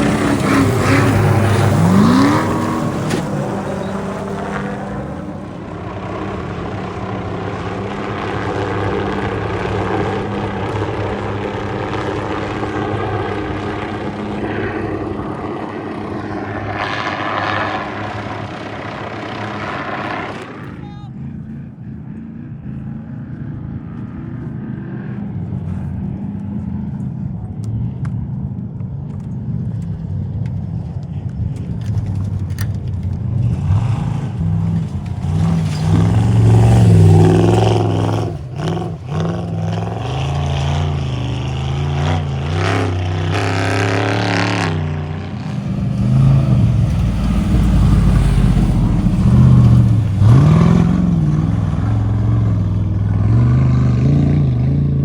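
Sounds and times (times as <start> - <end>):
off-road vehicle engine revving: 0.0 - 20.8, 30.6 - 55.0.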